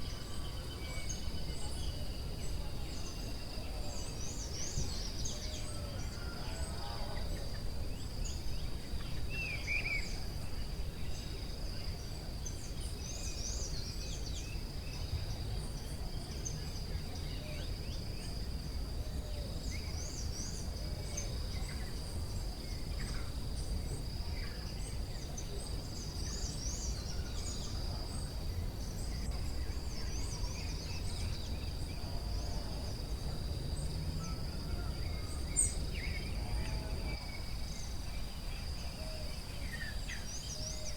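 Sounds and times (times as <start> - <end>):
insects droning: 0.0 - 40.9
low rumbling background noise: 0.0 - 40.9.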